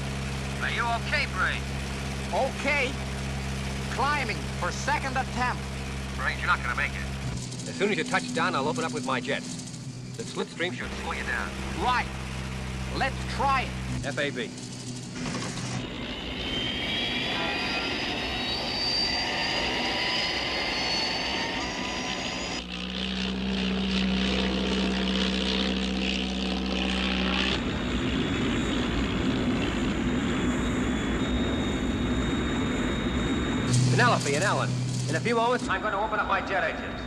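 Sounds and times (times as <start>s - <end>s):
biplane propeller engine: 0.0s - 37.0s
high gliding whine: 0.0s - 37.0s.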